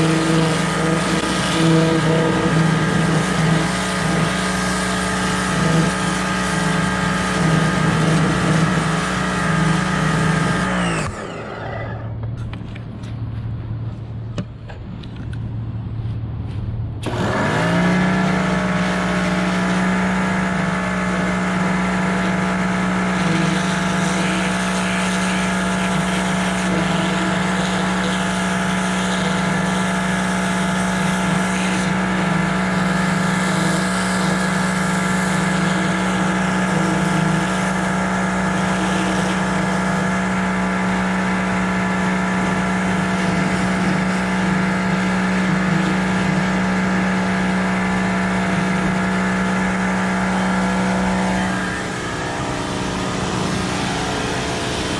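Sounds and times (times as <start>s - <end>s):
motor starting and humming: 0.0s - 13.4s, 17.0s - 54.9s.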